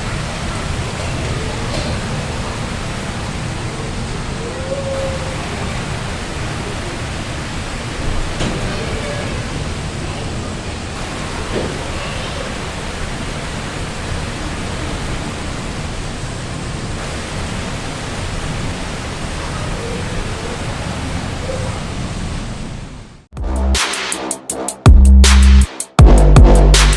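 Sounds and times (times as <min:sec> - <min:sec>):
heavy rain hissing: 0:00.0 - 0:26.9.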